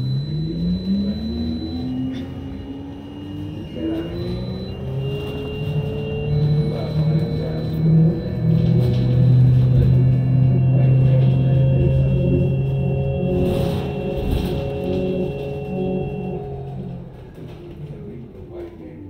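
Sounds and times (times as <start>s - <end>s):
electric motor whine: 0.0s - 17.4s
bus rumbling on road: 0.0s - 19.0s.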